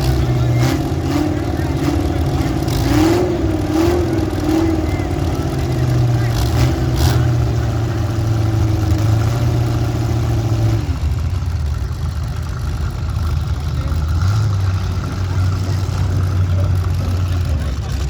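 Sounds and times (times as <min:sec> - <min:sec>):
car engines running: 0:00.0 - 0:18.0.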